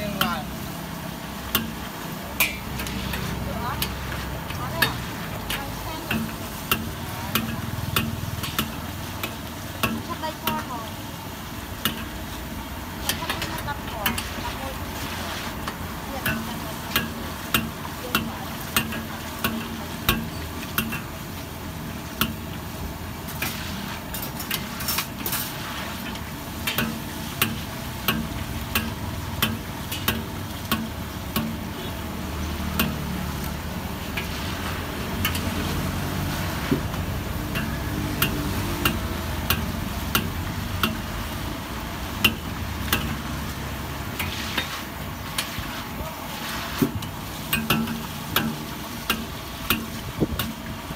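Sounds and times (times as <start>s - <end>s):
oil frying sizzle: 0.0s - 50.9s
ladle scraping a wok: 0.1s - 50.9s.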